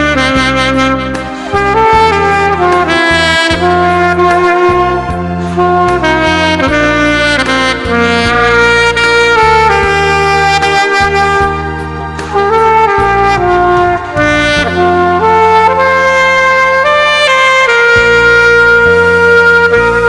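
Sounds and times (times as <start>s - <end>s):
backing bass and chords: 0.0s - 20.0s
saxophone melody: 0.0s - 20.0s.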